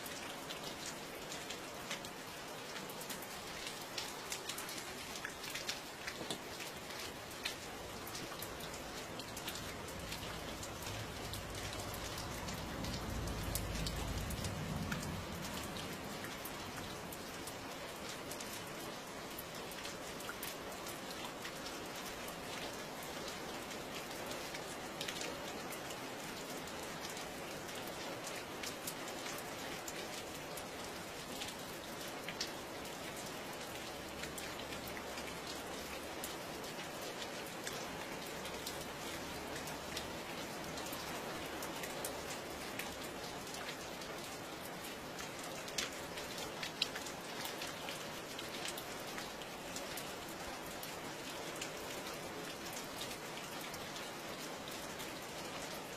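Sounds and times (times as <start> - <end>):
raindrops ticking on a surface: 0.0 - 55.9
steady rainfall: 0.0 - 55.9.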